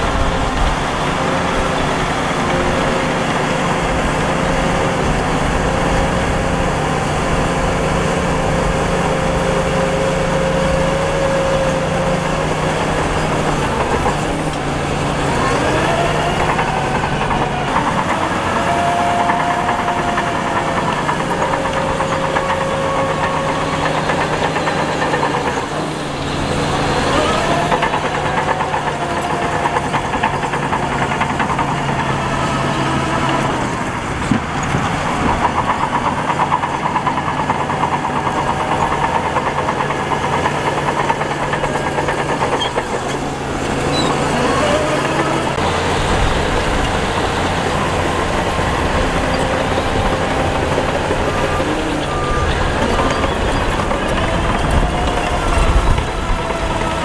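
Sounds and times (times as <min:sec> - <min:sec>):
heavy diesel engines revving: 0:00.0 - 0:57.0.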